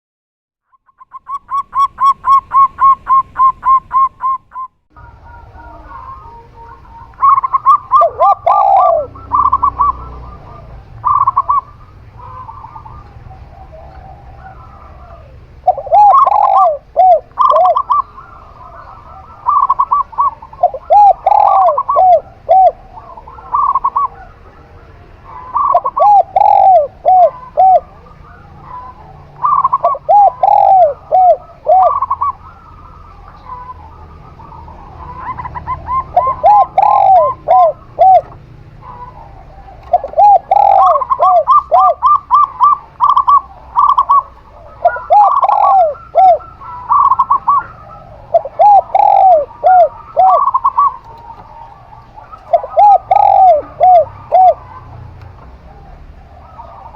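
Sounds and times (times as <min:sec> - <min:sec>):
high dove coos: 0:00.7 - 0:56.9
low round dove coos: 0:00.7 - 0:56.9.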